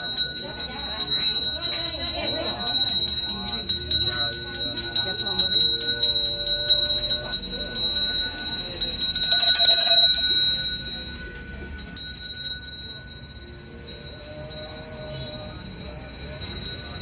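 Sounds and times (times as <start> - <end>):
hand bell ringing: 0.0 - 17.0.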